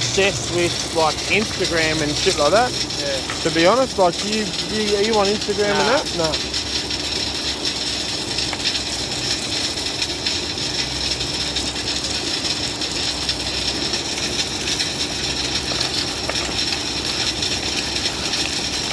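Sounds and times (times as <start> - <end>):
machine engine hum: 0.0 - 18.9
mechanical rattling: 0.0 - 18.9.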